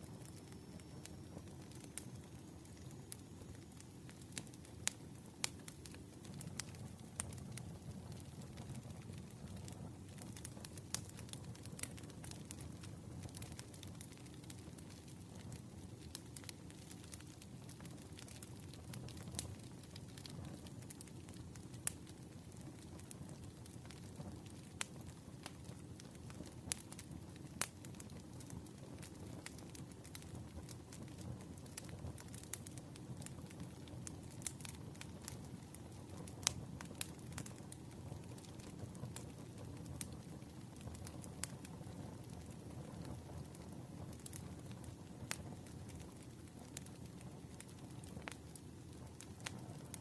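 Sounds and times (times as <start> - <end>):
burning logs popping: 0.0 - 50.0
wood fire crackling: 0.0 - 50.0.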